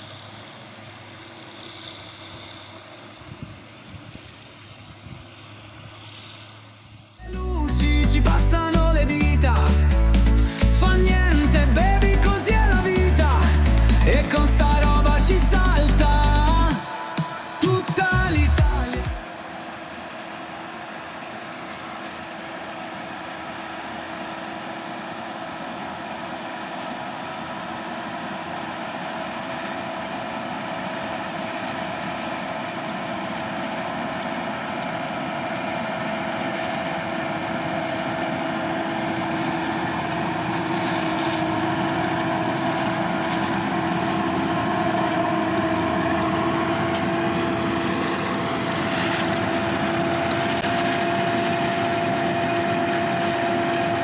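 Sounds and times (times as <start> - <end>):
harvester engine and chopper drone: 0.0 - 54.0.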